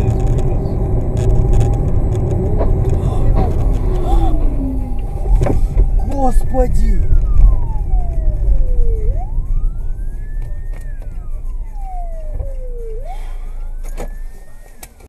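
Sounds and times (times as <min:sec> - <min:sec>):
emergency vehicle siren wailing: 0:00.0 - 0:15.0
road and engine rumble: 0:00.0 - 0:15.0.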